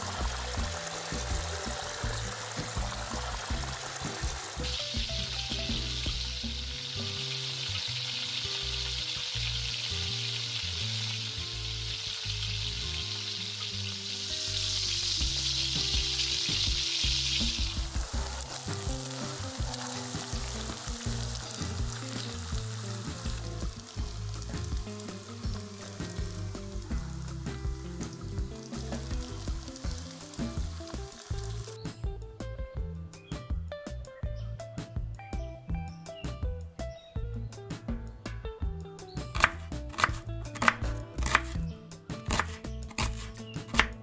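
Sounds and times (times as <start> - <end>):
oil and broth sizzling: 0.0 - 32.1, 39.0 - 44.0
background music: 0.0 - 44.0.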